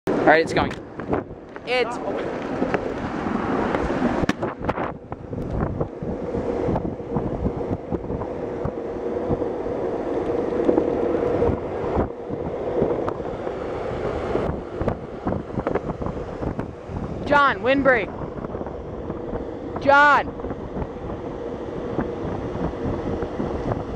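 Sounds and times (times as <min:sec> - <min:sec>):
longboard wheels rolling on asphalt: 0:00.1 - 0:17.4, 0:18.0 - 0:23.9
wind rushing over microphone: 0:00.1 - 0:23.9.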